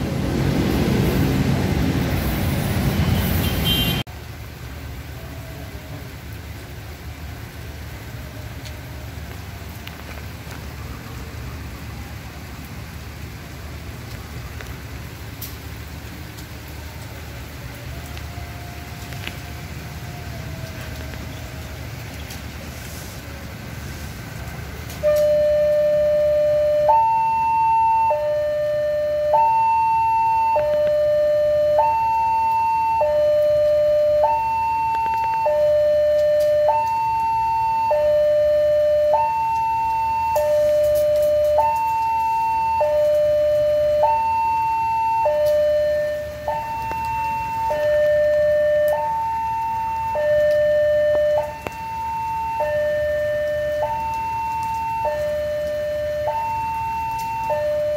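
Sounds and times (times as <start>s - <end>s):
level crossing warning siren: 5.0s - 57.9s.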